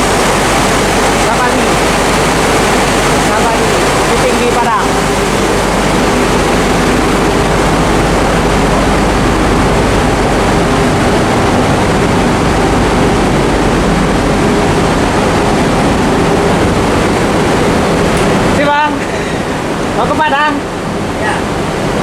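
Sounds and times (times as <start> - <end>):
faint steady hums: 0.0 - 22.0
loud machinery drone: 0.0 - 22.0.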